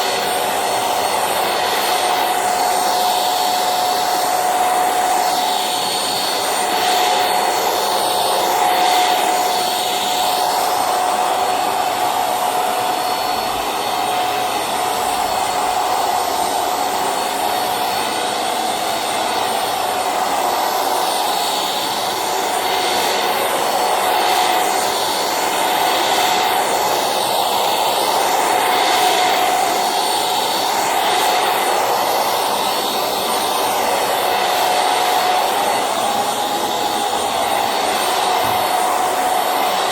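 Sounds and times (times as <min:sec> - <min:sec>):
handheld vacuum cleaner whining: 0:00.0 - 0:39.9.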